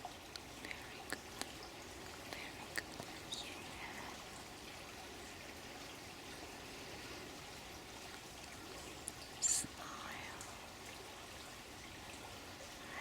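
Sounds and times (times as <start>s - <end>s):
sharp water drips: 0.0s - 13.0s
water trickling: 0.0s - 13.0s.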